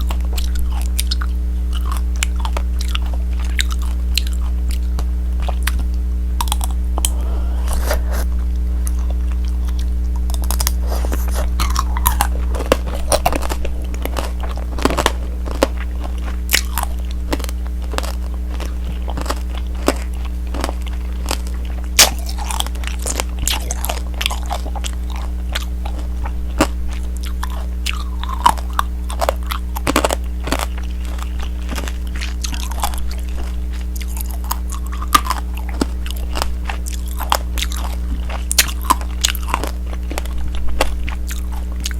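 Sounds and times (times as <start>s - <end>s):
steady low hum: 0.0s - 41.9s
candy shell crunching: 6.4s - 41.9s.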